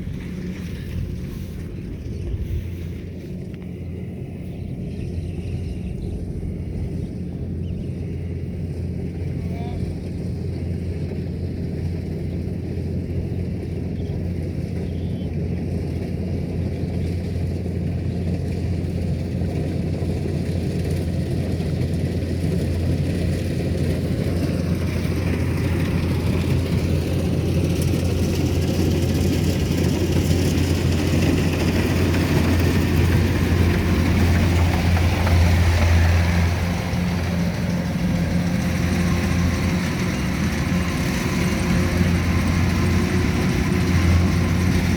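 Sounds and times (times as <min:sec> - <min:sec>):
harvester engine humming: 0:00.0 - 0:44.9.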